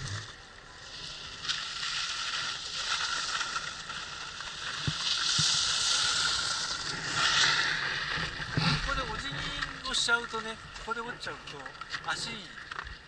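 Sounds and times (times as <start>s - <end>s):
skis scraping over snow: 0.0s - 11.4s.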